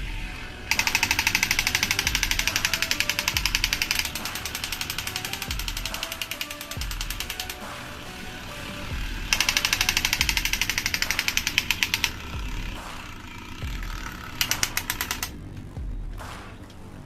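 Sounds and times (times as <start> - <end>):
electric toy gun rattling: 0.7 - 15.4.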